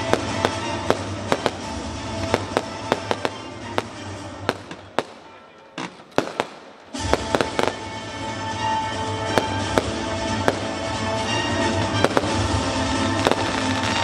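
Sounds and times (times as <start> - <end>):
fireworks bangs and crackles: 0.0 - 14.0
music: 0.0 - 14.0.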